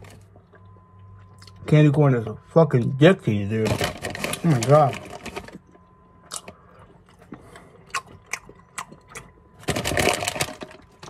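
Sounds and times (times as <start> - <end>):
person chewing candy: 0.0 - 1.7, 3.7 - 11.0.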